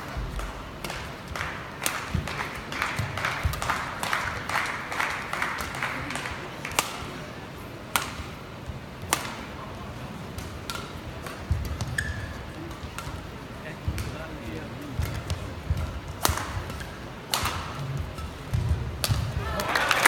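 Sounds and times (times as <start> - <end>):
rackets striking shuttlecock: 0.1 - 7.2, 7.9 - 8.4, 9.0 - 9.6, 10.3 - 19.4.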